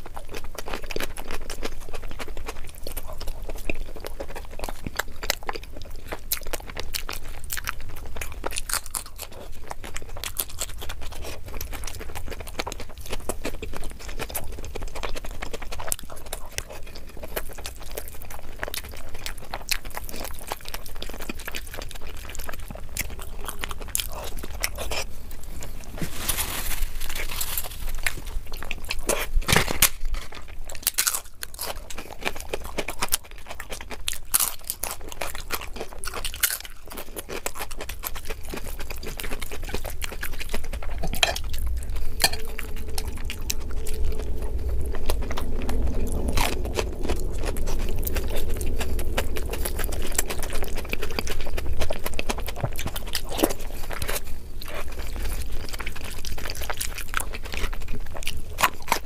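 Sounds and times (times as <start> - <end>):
wet chewing and lip smacks: 0.0 - 25.8, 27.9 - 59.0
crunching food: 0.0 - 59.0
low steady hum: 0.0 - 59.0.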